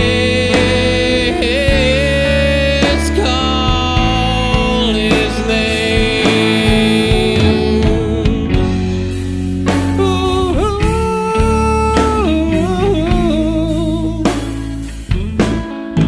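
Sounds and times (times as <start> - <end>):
male voice singing wordless notes: 0.0 - 9.1, 9.7 - 14.5
rock band playing: 0.0 - 16.0.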